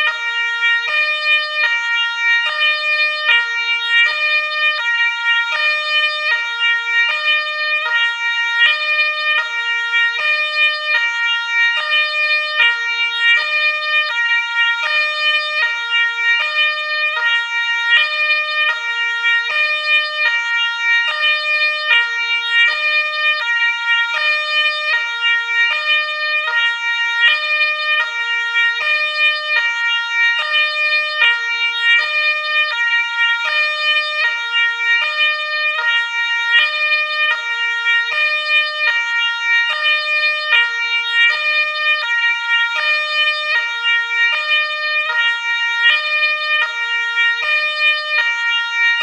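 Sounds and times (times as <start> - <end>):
ambulance two-tone siren: 0.0 - 49.0.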